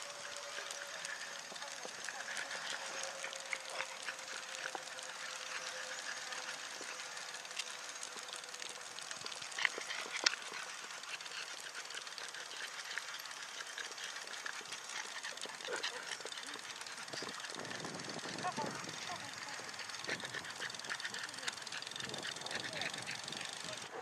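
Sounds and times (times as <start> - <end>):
wheels rolling on tarmac: 0.0 - 24.0.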